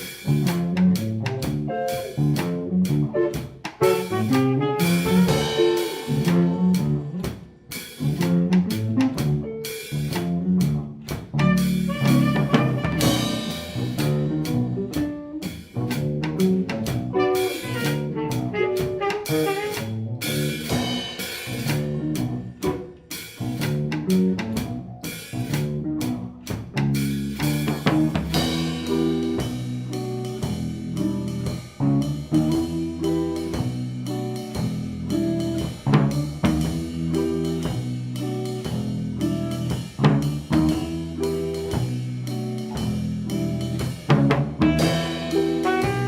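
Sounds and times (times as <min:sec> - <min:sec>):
jazz band playing: 0:00.0 - 0:46.0
short repeated bass notes: 0:00.0 - 0:46.0.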